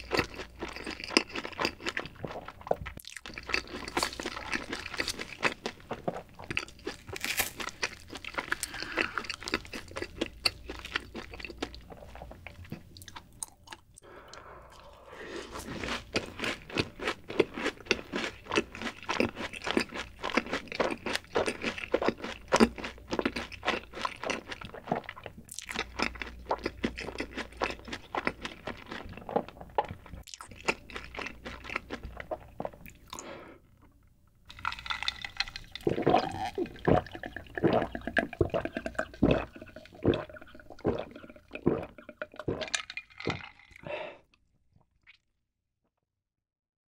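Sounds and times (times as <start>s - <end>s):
chewing crunchy food: 0.0s - 44.0s.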